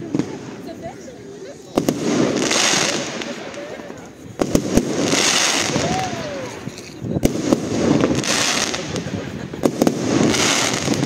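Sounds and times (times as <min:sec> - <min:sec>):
crackling firework showers: 0:00.0 - 0:11.0
fireworks bursting: 0:00.0 - 0:11.0
sharp firework bangs: 0:01.7 - 0:11.0.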